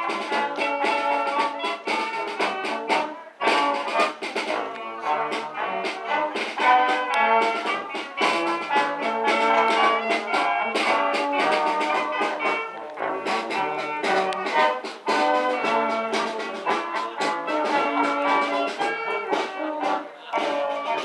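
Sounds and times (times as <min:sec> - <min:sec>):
brass band playing: 0:00.0 - 0:21.0
drum kit beat: 0:00.0 - 0:21.0.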